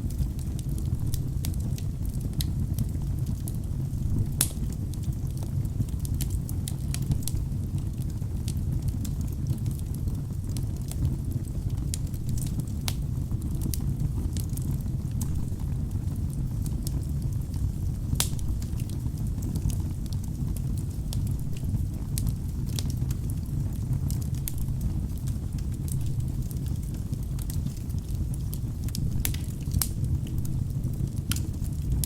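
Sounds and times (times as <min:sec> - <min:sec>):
fire crackling in a fireplace: 0:00.0 - 0:32.0.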